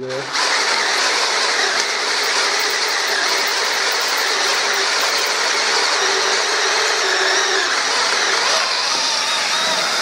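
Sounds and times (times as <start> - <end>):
power drill cutting into steel: 0.1 - 10.0.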